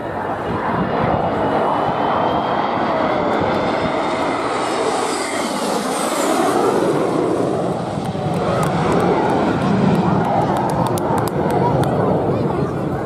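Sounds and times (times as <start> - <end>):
jet engine roar and whine: 0.0 - 13.0.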